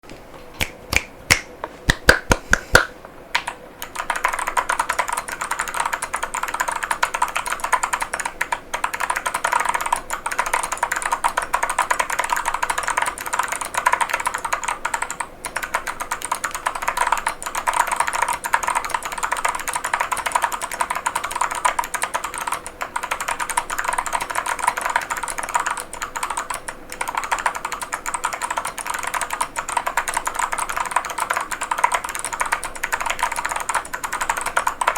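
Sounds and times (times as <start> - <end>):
mechanical keyboard typing: 3.4 - 34.9.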